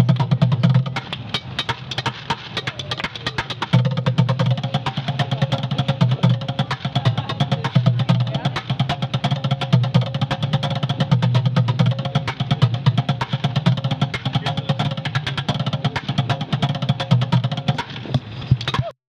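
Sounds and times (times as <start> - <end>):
buckets drummed with sticks: 0.0 - 19.0.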